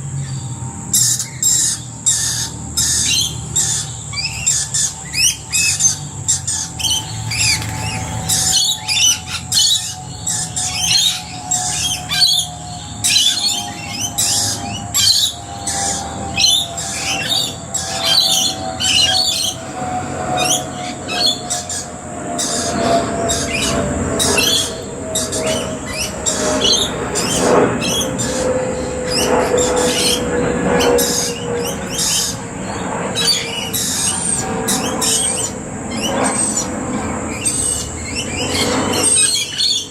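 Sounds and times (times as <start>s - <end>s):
aircraft passing overhead: 0.0s - 39.9s
birds squawking shrilly: 0.0s - 39.9s.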